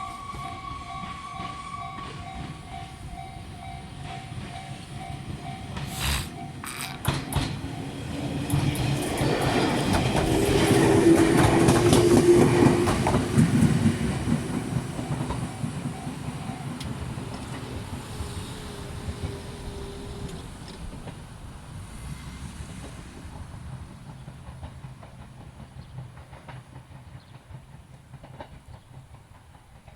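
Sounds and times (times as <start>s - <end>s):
electric train passing: 0.0s - 29.9s
wheels clattering over rail joints: 3.8s - 29.9s.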